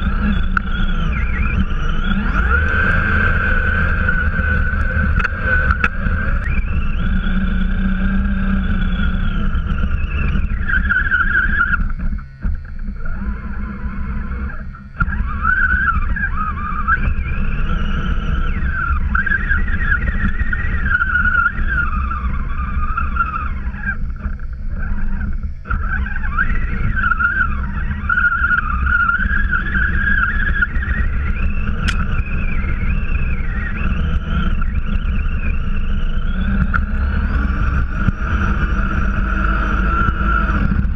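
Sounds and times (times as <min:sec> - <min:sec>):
electric motor whining: 0:00.0 - 0:40.9
steady low rumble: 0:00.0 - 0:40.9.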